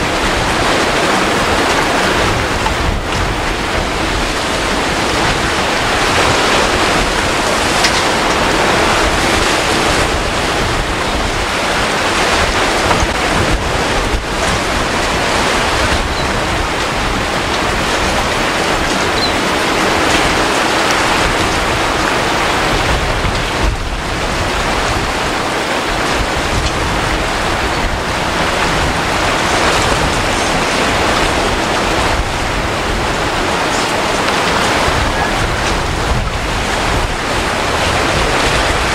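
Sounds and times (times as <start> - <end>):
surf breaking: 0.0 - 38.9
wind buffeting microphone: 0.0 - 38.9.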